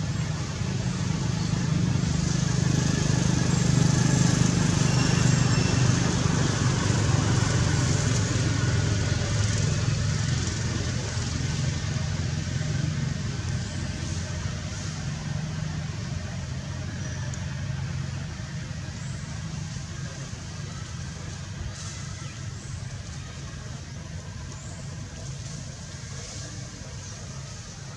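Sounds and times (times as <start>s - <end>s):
vehicle engine droning: 0.0s - 27.9s.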